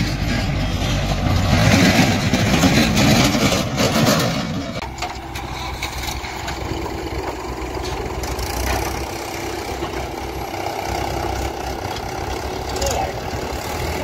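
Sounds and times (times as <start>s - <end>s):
diesel engines running at low revs: 0.0s - 14.0s.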